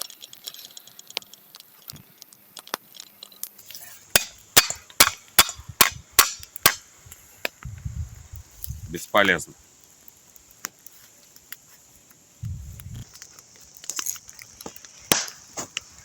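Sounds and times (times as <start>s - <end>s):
sharp crackles and clicks: 0.0s - 16.0s.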